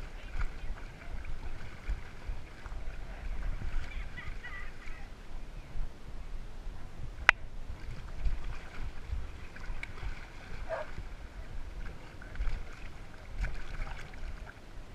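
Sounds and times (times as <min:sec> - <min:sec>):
water sloshing and splashing: 0:00.0 - 0:05.2, 0:07.6 - 0:14.9
wind on microphone: 0:00.0 - 0:14.9.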